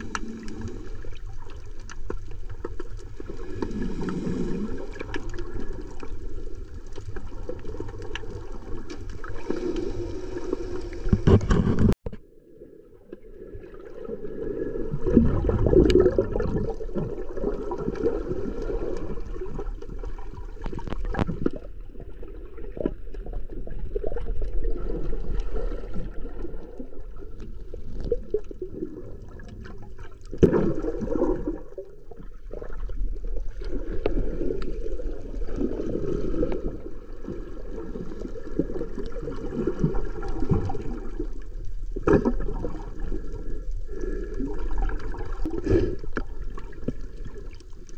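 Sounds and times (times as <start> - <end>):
muffled underwater water churning: 0.0 - 47.9.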